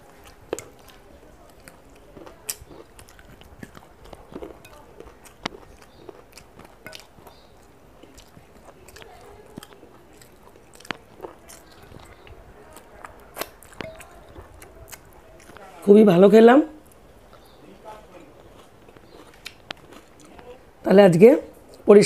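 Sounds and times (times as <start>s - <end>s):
chewing and wet mouth noises: 0.0s - 15.8s, 16.8s - 20.7s.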